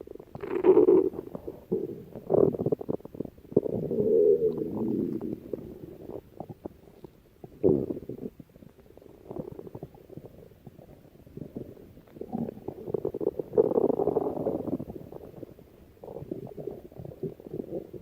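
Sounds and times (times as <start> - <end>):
stomach growling: 0.0 - 18.0.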